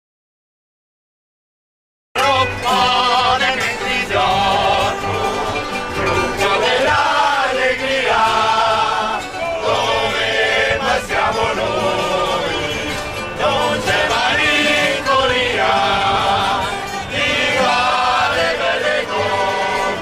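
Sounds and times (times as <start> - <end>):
acoustic guitar: 2.2 - 20.0
mandolin: 2.2 - 20.0
men singing together: 2.2 - 20.0.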